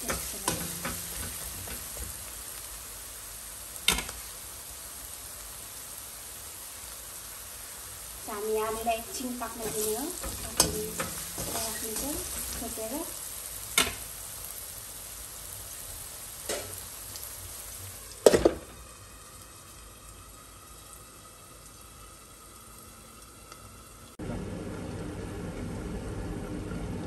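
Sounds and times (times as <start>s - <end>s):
potatoes sizzling in hot oil: 0.0s - 24.6s.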